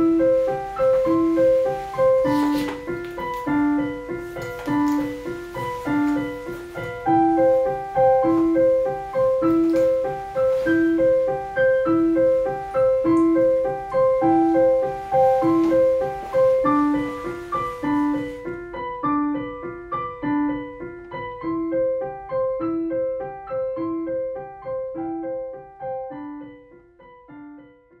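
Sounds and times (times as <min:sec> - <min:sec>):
solo piano music: 0:00.0 - 0:28.0.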